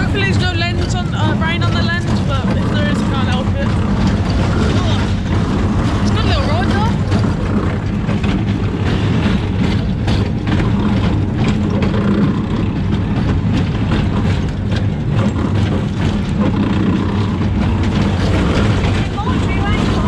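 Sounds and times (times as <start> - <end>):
clattering and knocking: 0.0 - 20.0
funfair machinery humming: 0.0 - 20.0.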